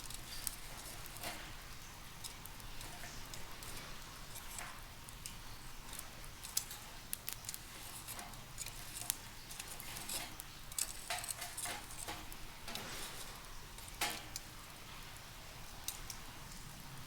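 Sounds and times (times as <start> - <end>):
charcoal fire crackling and popping: 0.0 - 17.0.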